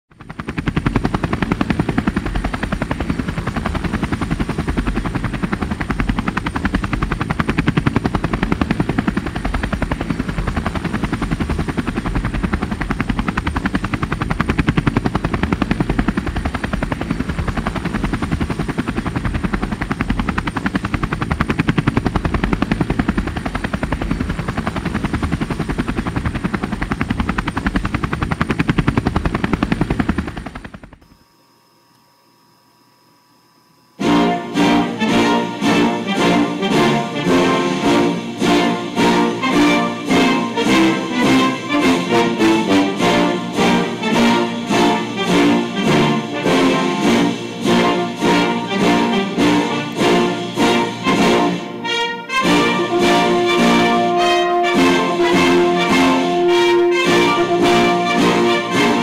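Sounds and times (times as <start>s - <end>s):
helicopter rotor chop: 0.1s - 31.2s, 34.0s - 59.0s.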